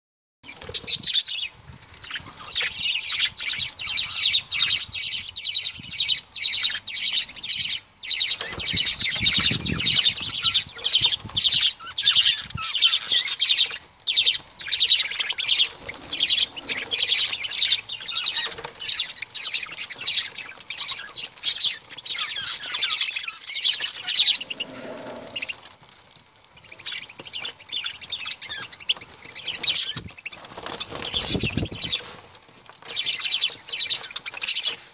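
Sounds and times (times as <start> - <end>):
lovebirds chattering: 0.4 - 25.8, 26.6 - 32.2, 32.8 - 34.9.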